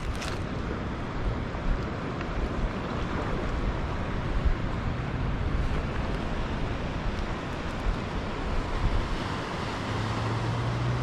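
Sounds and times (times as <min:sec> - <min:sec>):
surf washing against rocks: 0:00.0 - 0:11.0
wind noise on microphone: 0:00.0 - 0:11.0.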